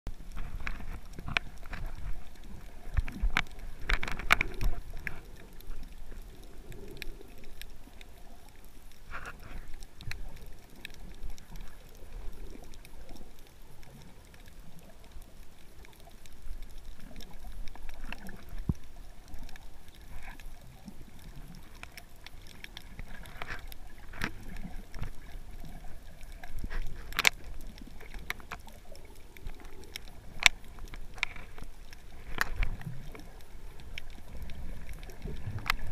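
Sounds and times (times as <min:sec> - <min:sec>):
underwater moving water rumble: 0:00.1 - 0:35.9.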